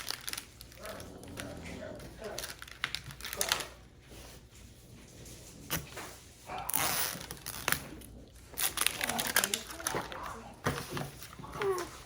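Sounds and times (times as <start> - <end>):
plastic crackling rustle: 0.0 - 12.0.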